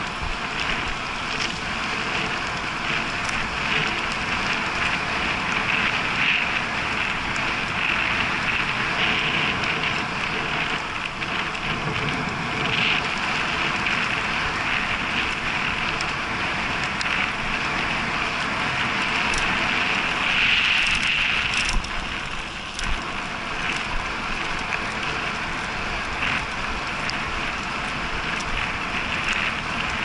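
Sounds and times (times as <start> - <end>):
bicycle tyre and wind noise: 0.0 - 30.0.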